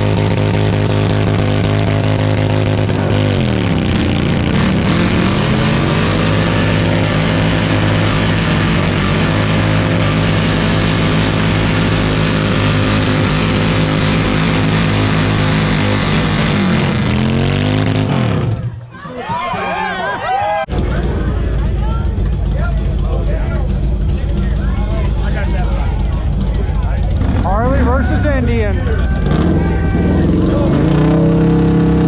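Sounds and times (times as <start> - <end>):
motorcycle engine revving hard: 0.0 - 18.8, 20.7 - 32.0.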